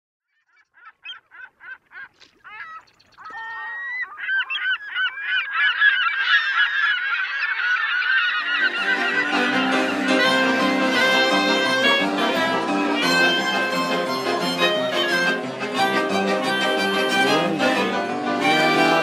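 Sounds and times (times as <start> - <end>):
flock of birds honking: 0.8 - 19.0.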